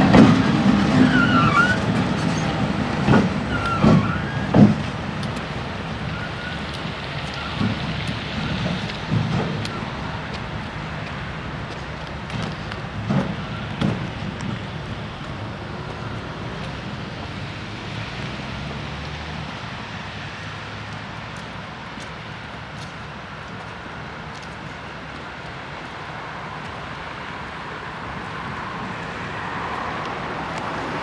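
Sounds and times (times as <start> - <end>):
diesel locomotive engine humming: 0.0 - 31.0.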